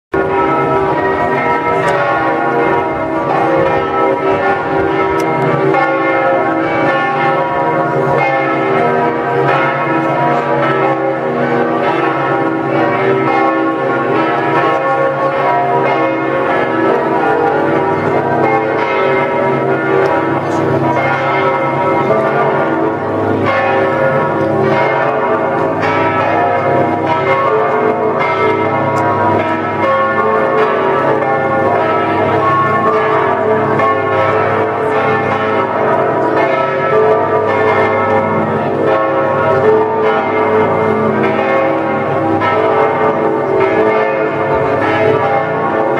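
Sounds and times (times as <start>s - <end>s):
tower bells pealing: 0.2s - 45.9s.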